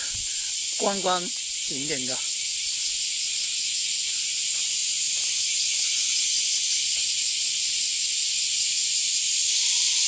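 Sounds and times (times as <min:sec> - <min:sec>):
high-pitched hiss: 0:00.0 - 0:10.0.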